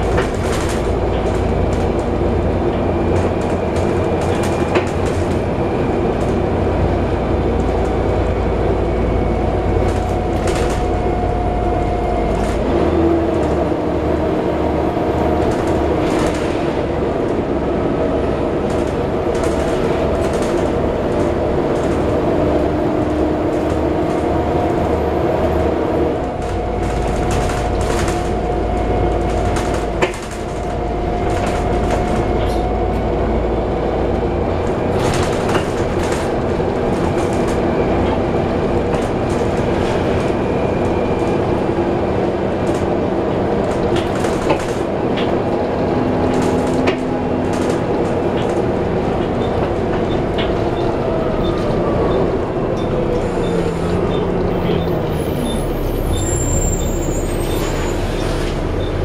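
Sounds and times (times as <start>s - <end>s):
bus engine and fan whine: 0.0s - 59.0s.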